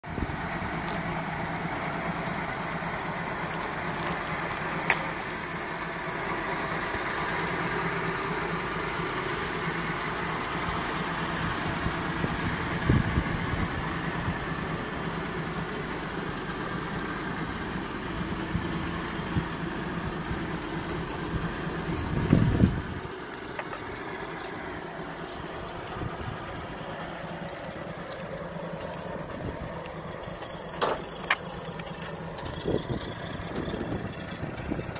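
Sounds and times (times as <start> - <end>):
car engine idling: 0.0 - 34.9
engine knocks: 0.0 - 34.9.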